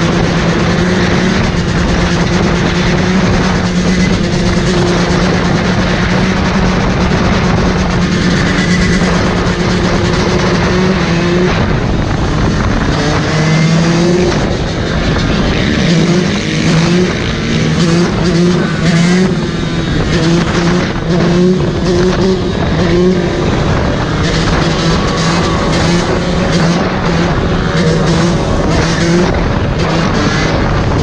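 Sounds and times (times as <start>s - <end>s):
dirt bike engine revving: 0.0s - 31.0s
other motorbikes: 0.0s - 31.0s
wind noise on microphone: 0.0s - 31.0s.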